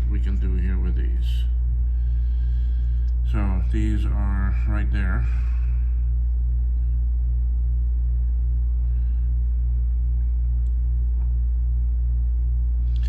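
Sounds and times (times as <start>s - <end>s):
mains hum: 0.0s - 13.0s.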